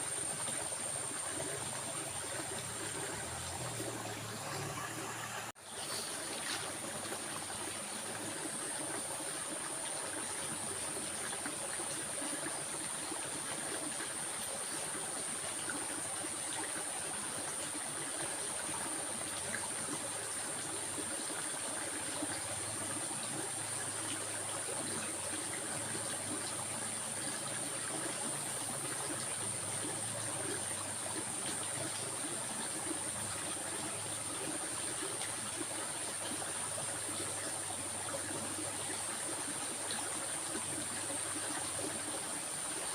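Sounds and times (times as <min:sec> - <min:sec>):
water flowing and trickling: 0:00.0 - 0:42.9.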